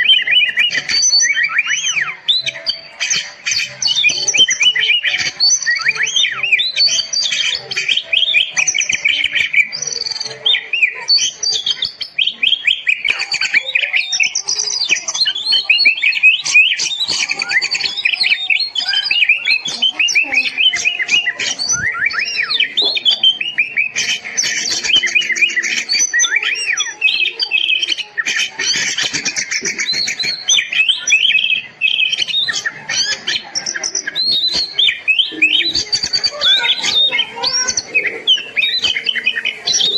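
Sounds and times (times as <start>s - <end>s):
bird singing with whistles and trills: 0.0s - 39.9s.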